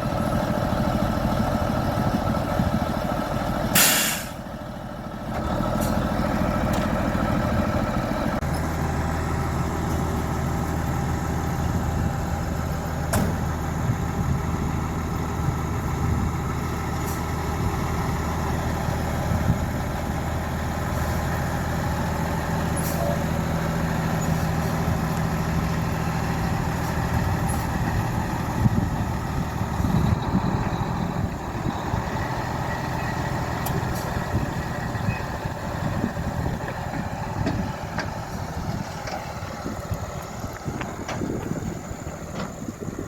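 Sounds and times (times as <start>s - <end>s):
large vehicle engine running: 0.0s - 43.0s.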